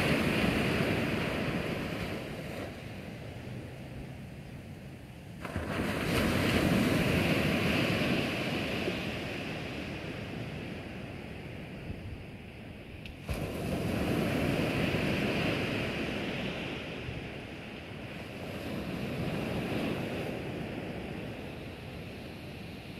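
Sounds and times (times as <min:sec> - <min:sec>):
waves breaking on sandy beach: 0:00.0 - 0:22.9.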